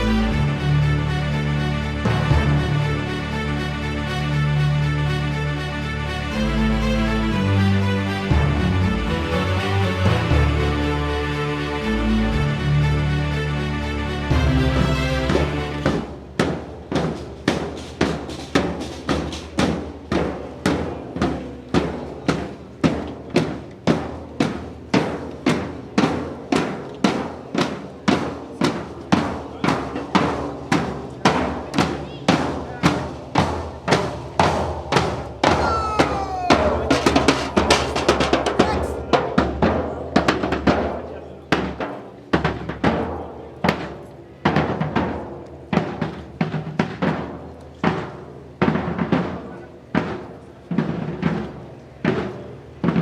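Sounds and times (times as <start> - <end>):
drums beating a steady cadence: 0.0 - 53.0.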